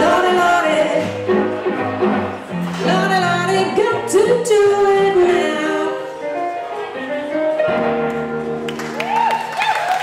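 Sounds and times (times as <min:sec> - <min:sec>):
electric keyboard: 0:00.0 - 0:09.1.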